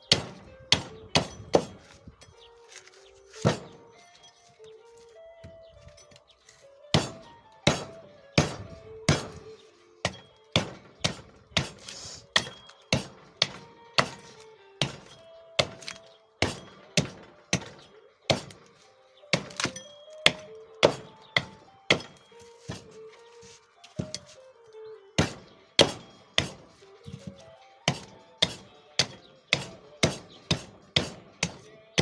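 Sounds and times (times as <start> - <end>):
axe chopping wood: 0.0 - 2.0, 2.7 - 3.9, 6.9 - 23.0, 23.9 - 24.4, 25.2 - 32.0.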